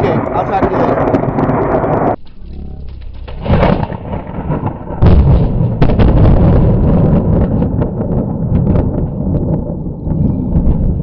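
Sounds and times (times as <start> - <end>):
thunder crack: 0.0 - 11.0
thunder rumble with crackling: 0.0 - 11.0.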